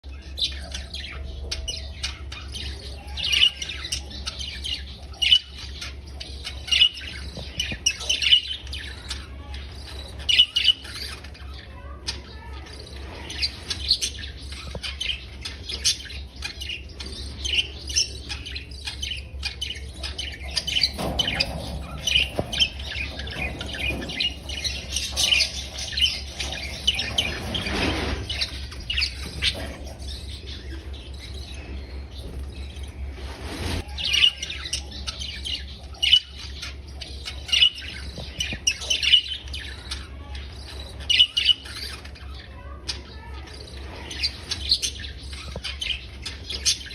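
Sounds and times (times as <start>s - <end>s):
budgerigars chirping and chattering: 0.0s - 46.9s
harsh bird calls: 0.0s - 46.9s.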